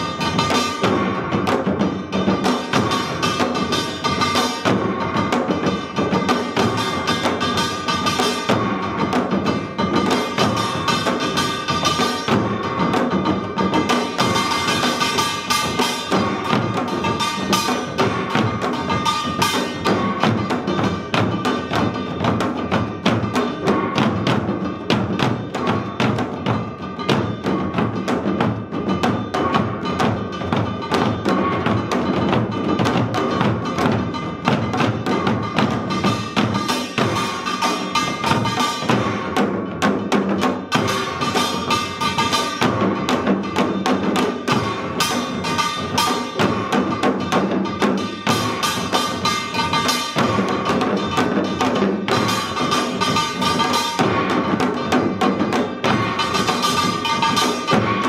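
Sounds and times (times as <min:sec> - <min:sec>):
drums beating driving rhythm: 0:00.0 - 0:58.0
small gongs ringing: 0:00.0 - 0:58.0.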